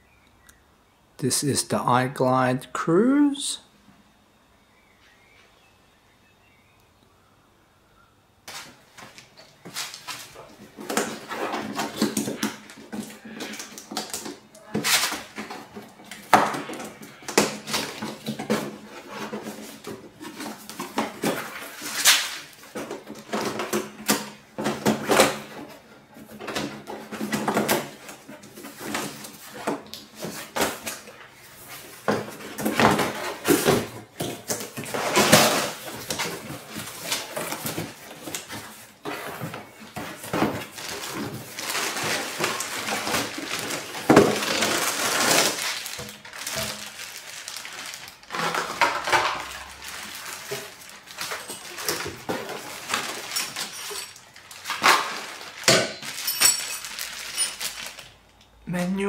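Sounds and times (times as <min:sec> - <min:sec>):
cardboard and plastic rustling: 0:08.4 - 0:58.4.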